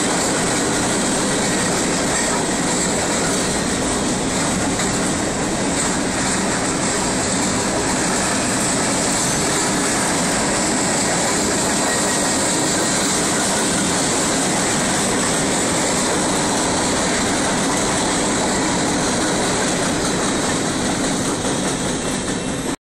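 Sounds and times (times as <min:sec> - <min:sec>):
train wheels rolling on rails: 0:00.0 - 0:22.8.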